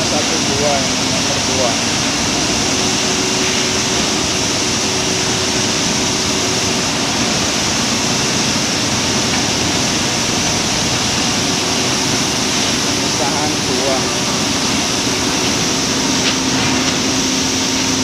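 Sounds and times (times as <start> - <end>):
threshing machinery running: 0.0 - 18.0.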